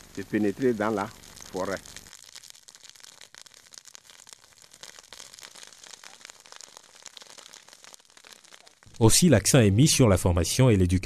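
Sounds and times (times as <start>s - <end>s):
dry grass burning and crackling: 0.0s - 9.3s.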